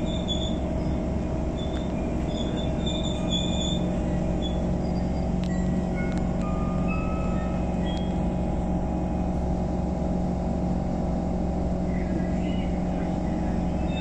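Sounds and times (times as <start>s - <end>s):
train hum and rumble: 0.0s - 14.0s.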